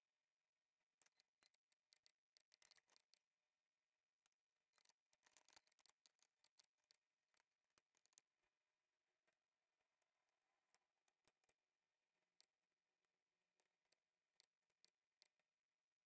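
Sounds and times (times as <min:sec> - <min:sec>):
faint clicks and ticks: 0:00.8 - 0:03.4, 0:04.1 - 0:16.0.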